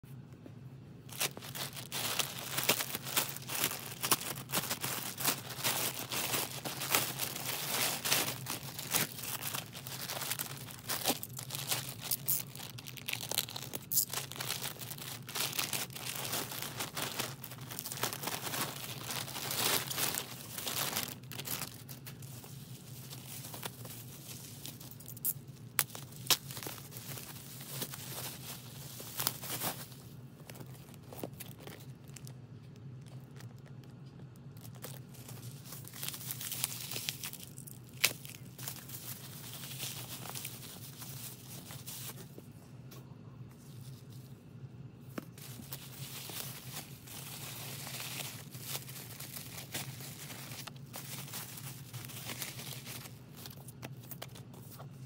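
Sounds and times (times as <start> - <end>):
plastic bags tearing and crinkling: 1.1 - 42.3, 45.2 - 54.8.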